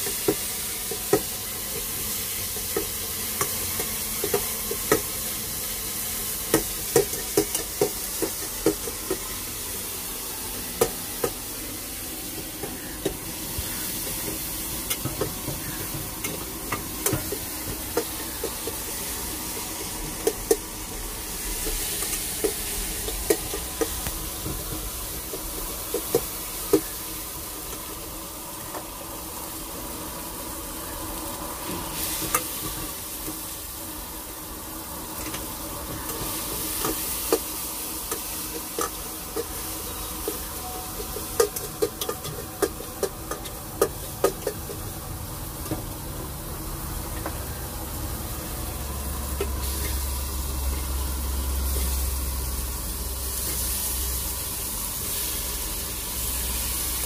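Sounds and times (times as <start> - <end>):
chicken sizzling in a pan: 0.0 - 57.0.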